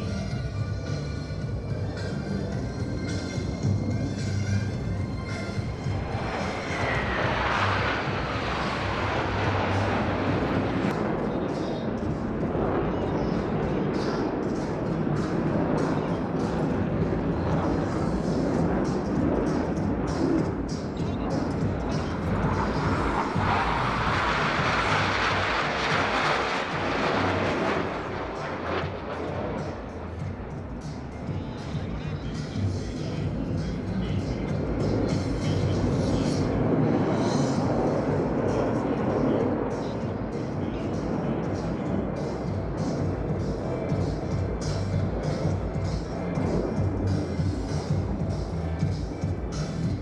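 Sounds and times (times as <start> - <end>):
jet aircraft flying past: 0.0 - 50.0.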